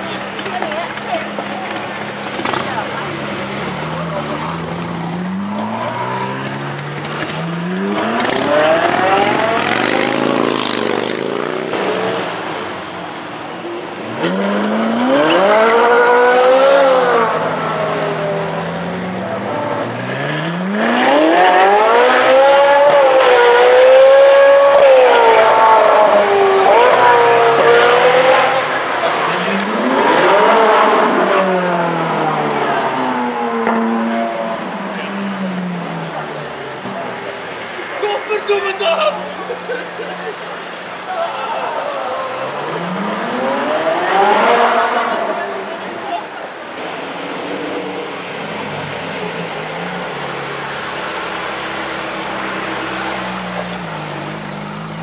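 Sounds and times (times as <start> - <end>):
sports car engine revving: 0.2 - 12.9, 13.9 - 37.9, 42.4 - 55.0.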